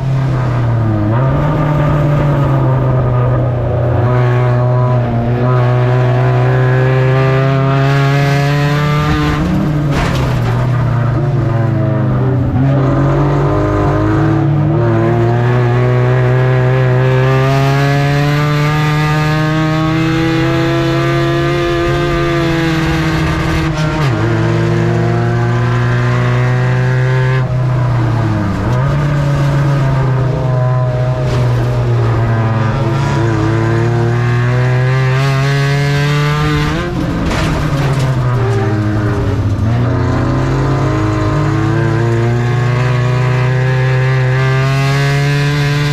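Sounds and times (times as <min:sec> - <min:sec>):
racing truck engine revving: 0:00.0 - 0:45.9.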